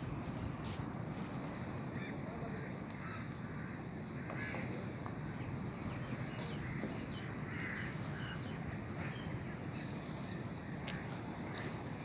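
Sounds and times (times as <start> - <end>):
faint bird calls: 1.5 - 12.0.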